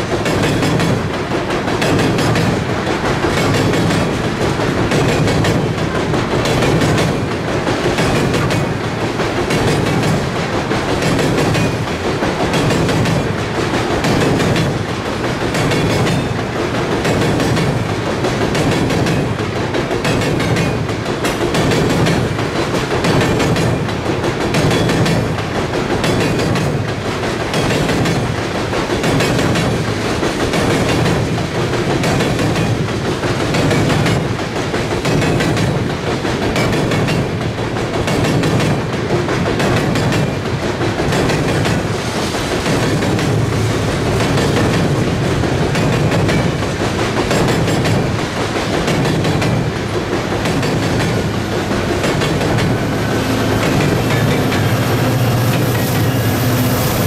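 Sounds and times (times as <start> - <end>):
rail cars rumbling on bridge: 0.0 - 57.0
wheels clacking over rail joints: 0.0 - 57.0.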